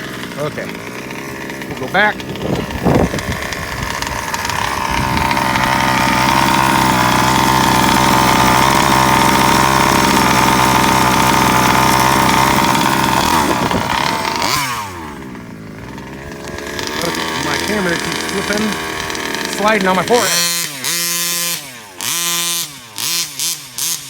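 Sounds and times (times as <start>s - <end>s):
rc truck engine revving: 0.0s - 24.0s.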